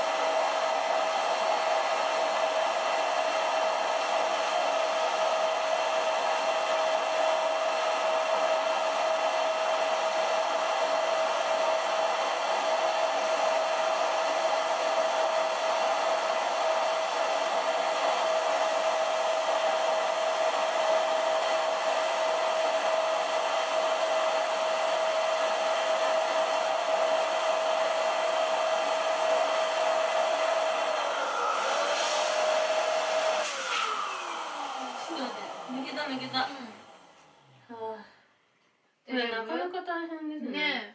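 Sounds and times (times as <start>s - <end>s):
electric air pump humming: 0.0s - 37.7s.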